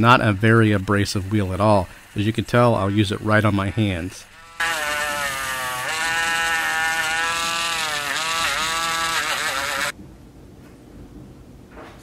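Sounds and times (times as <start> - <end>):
rotary tool motor whine: 0.0 - 10.0.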